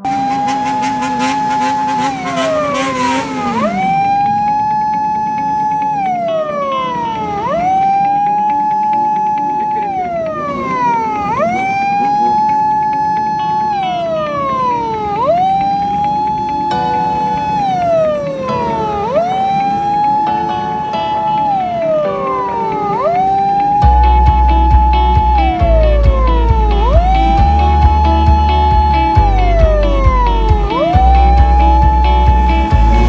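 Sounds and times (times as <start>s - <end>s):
police siren wailing: 0.0s - 33.0s.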